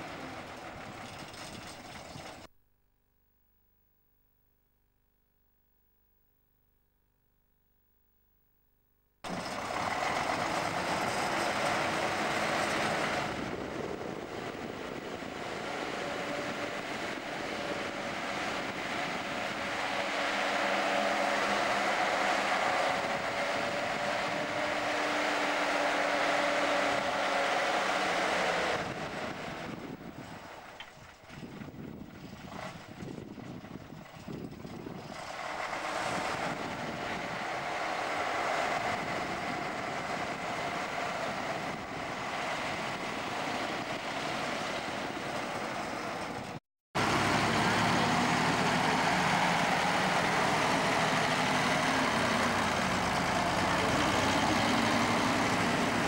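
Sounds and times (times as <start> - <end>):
tractor diesel engine running: 0.0 - 2.5, 9.3 - 56.0.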